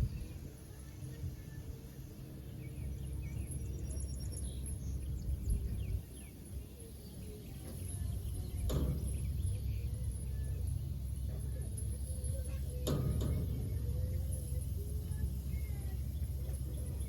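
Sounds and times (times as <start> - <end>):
low wind rumble: 0.0 - 17.0
small birds chirping: 0.0 - 17.0.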